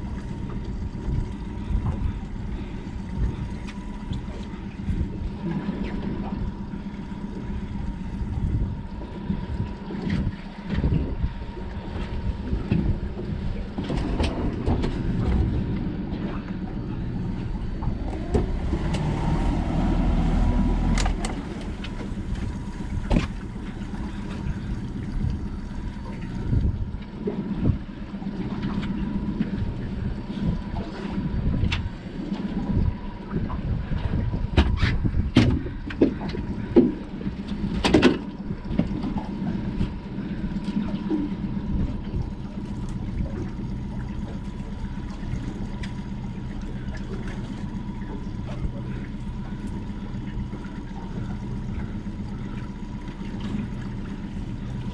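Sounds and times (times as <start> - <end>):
outboard motor running: 0.0 - 54.9
wind rumble on microphone: 0.0 - 54.9.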